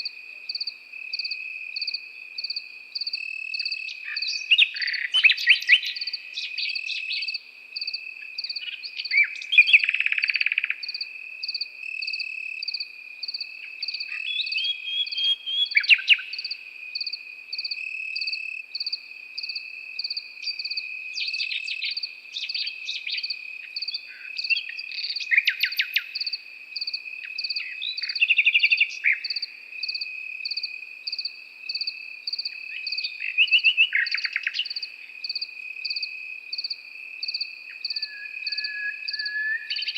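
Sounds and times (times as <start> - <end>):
crickets chirping: 0.0 - 39.9
nightingale singing: 0.0 - 39.9.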